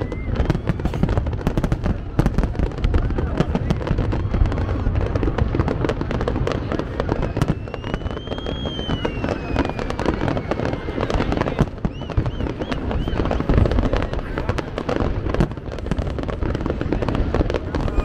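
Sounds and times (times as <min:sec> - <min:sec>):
firework whistle: 0:00.0 - 0:15.6, 0:17.0 - 0:18.0
deep fireworks booms: 0:00.0 - 0:18.0
fireworks crackling and popping: 0:00.0 - 0:18.0.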